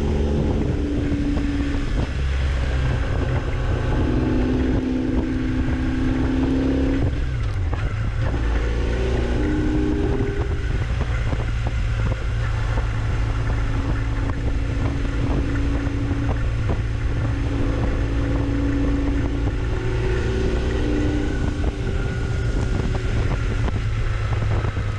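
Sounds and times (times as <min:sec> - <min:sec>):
motorcycle engine running: 0:00.0 - 0:24.9
wind buffeting the microphone: 0:00.0 - 0:24.9.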